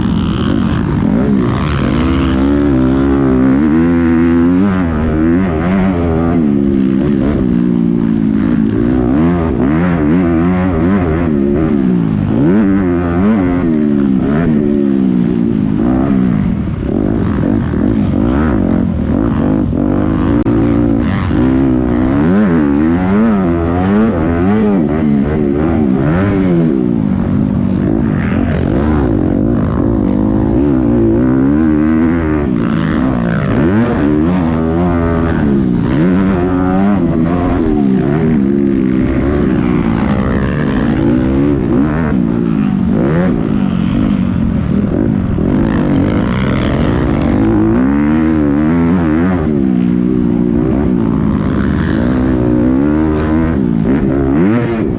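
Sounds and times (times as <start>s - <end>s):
motocross bike engines revving: 0.0s - 54.9s.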